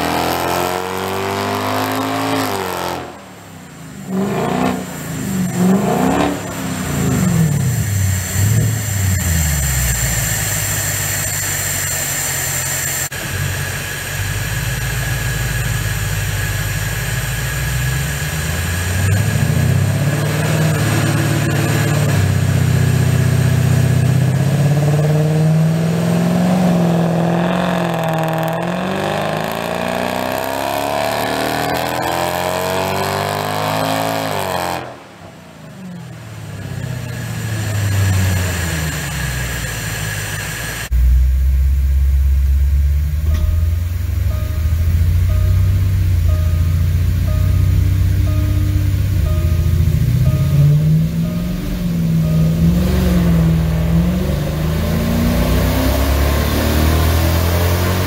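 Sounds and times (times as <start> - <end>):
car engine revving on a dyno: 0.0 - 58.0.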